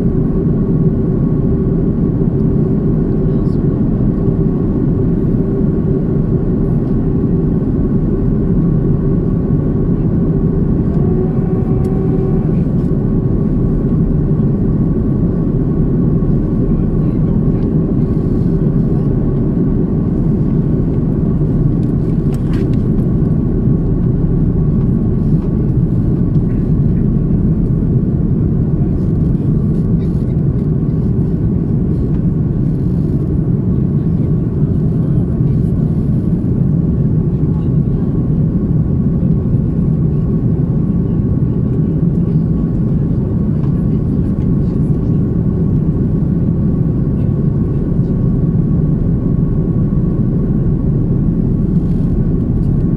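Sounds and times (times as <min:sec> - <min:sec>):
droning vehicle cabin noise: 0:00.0 - 0:52.9.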